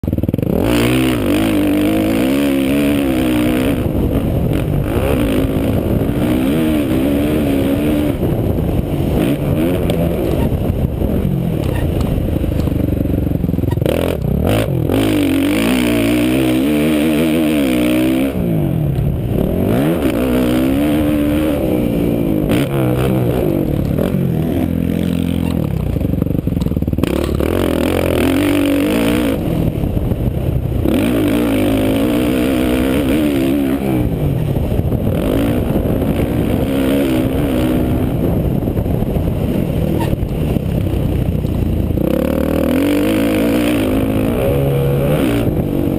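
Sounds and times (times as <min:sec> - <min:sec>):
motocross engine revving: 0:00.0 - 0:40.8, 0:41.9 - 0:45.9.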